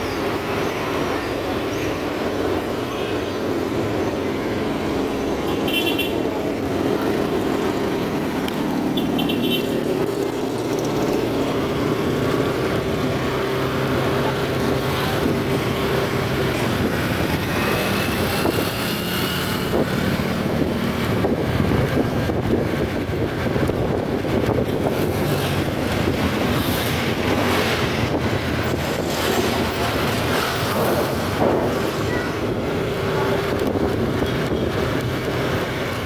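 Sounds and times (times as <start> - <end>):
road and traffic noise: 0.0 - 36.0.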